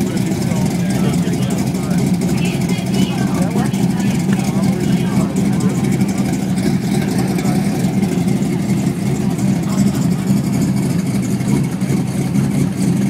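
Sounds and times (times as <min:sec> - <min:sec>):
car engine idling rough: 0:00.0 - 0:13.0.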